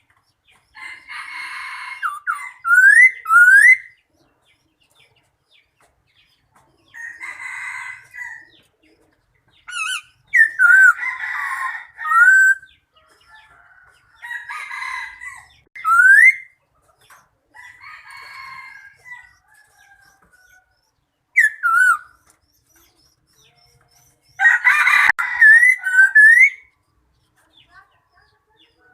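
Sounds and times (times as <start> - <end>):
bird calls: 0.0 - 28.9.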